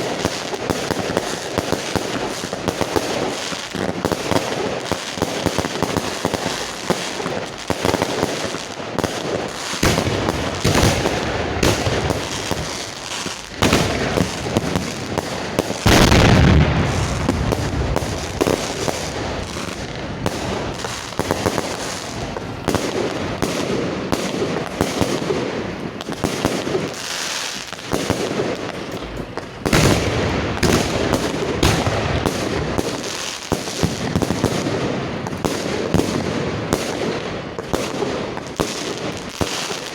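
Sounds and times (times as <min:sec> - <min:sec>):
fireworks bangs and crackling: 0:00.0 - 0:39.9
deep firework blasts: 0:03.9 - 0:26.9, 0:27.9 - 0:39.2.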